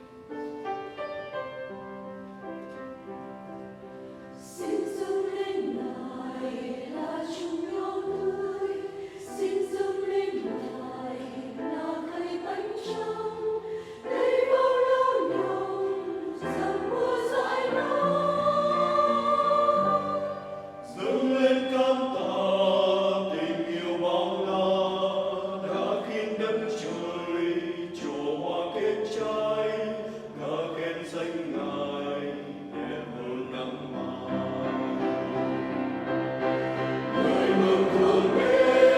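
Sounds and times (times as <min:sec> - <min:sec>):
choir singing a hymn: 0:03.5 - 0:38.9.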